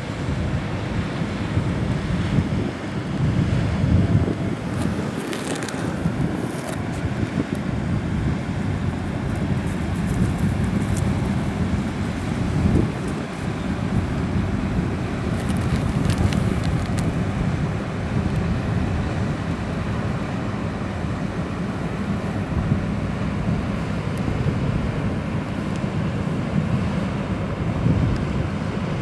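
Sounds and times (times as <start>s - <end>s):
boat engine drone: 0.0s - 29.0s
wind buffeting microphone: 0.0s - 29.0s.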